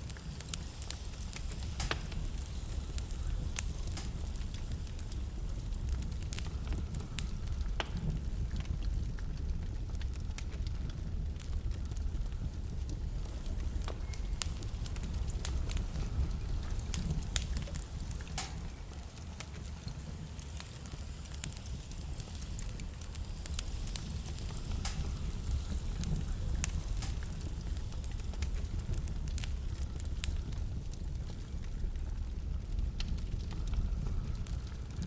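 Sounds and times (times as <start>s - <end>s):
burning logs crackling and popping: 0.0s - 35.0s
low rumble of flames: 0.0s - 35.0s.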